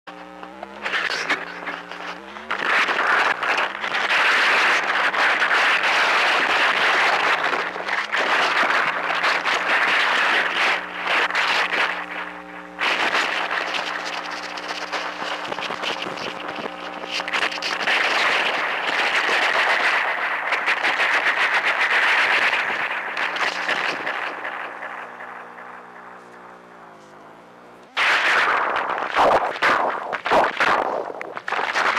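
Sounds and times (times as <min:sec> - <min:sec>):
distorted crackling hiss: 0:00.1 - 0:31.9
steady droning tones: 0:00.1 - 0:31.9.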